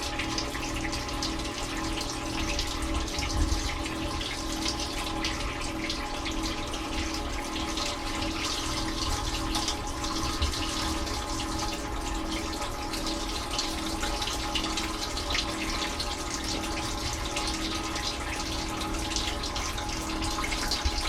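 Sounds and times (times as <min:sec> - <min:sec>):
wash pump hum: 0:00.0 - 0:21.0.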